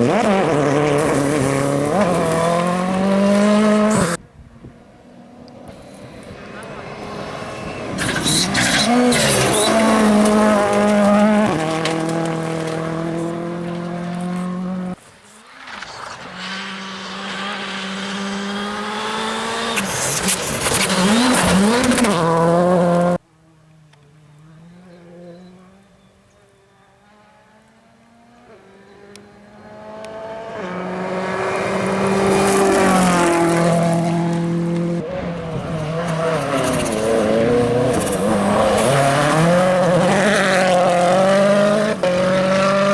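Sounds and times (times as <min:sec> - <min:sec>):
rally car engines revving: 0:00.0 - 0:04.2, 0:05.0 - 0:42.9.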